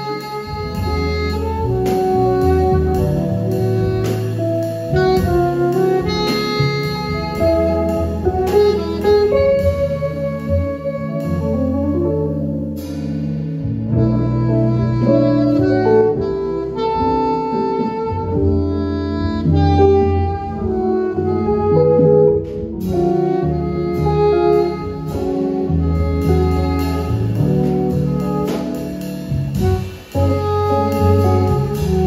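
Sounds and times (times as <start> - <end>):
saxophone melody: 0.0 - 13.1, 13.8 - 32.0
drums: 0.0 - 32.0
electric bass: 0.0 - 32.0.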